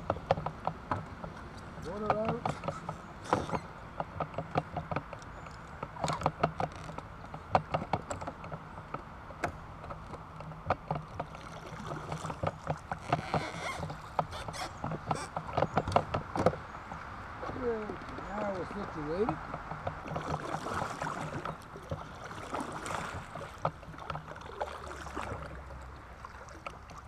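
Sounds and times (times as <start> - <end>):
paddle knocking against hull: 0.0 - 27.0
paddle splashing in water: 0.0 - 27.0.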